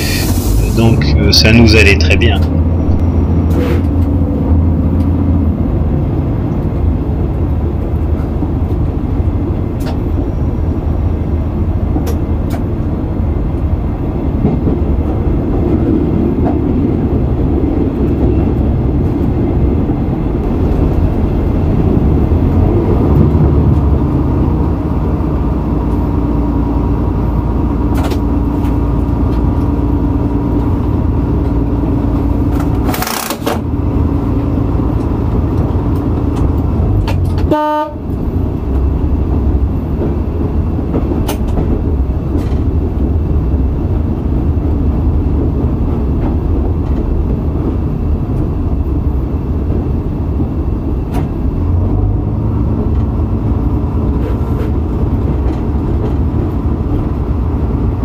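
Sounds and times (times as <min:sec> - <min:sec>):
diesel railcar rumbling: 0:00.0 - 0:58.0.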